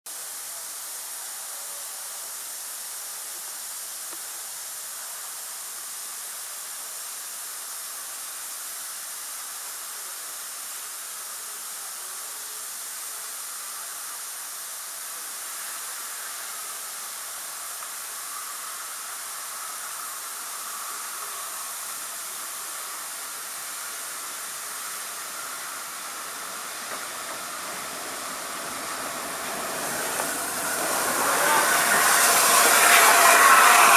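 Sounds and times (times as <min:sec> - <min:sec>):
steam hissing: 0:00.1 - 0:33.9.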